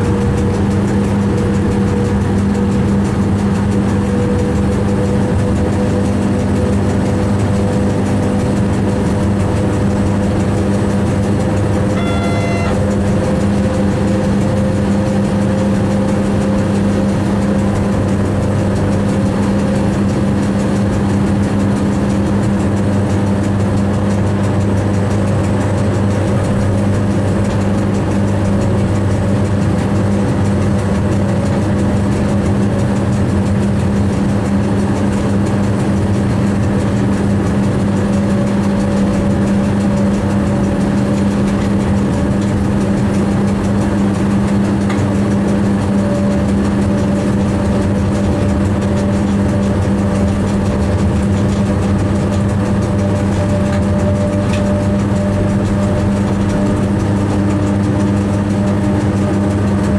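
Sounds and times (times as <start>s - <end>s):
train cab low hum: 0.0s - 59.9s.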